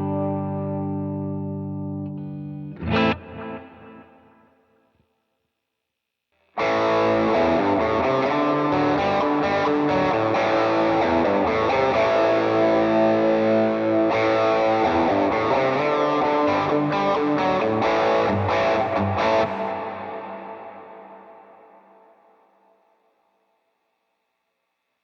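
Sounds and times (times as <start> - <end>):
electric guitar playing: 0.0 - 4.6, 6.6 - 22.4.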